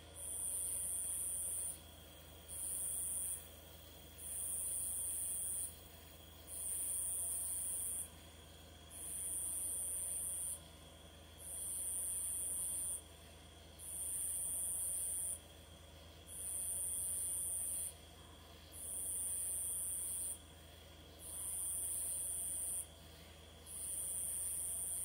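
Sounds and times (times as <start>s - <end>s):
faint steady hum: 0.0s - 25.0s
insects buzzing in chorus: 0.0s - 25.0s.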